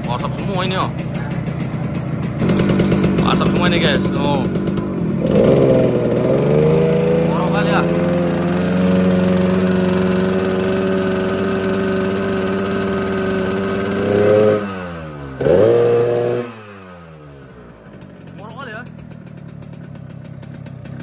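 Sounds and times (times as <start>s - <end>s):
motorcycle engine exhaust growl: 0.0s - 21.0s.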